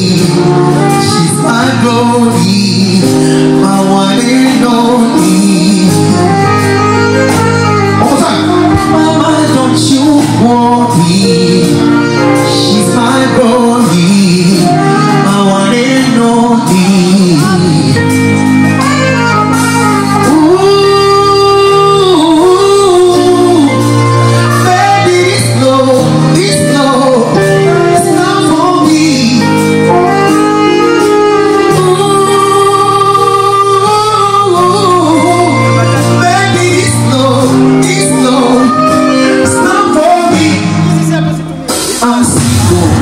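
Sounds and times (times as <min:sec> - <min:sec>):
live band music: 0:00.0 - 0:43.0
wordless melismatic singing: 0:00.0 - 0:43.0.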